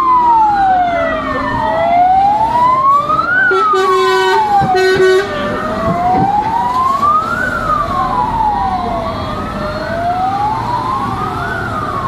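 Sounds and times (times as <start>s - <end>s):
fire truck sirens wailing: 0.0s - 12.0s
heavy truck engine running: 0.2s - 12.0s.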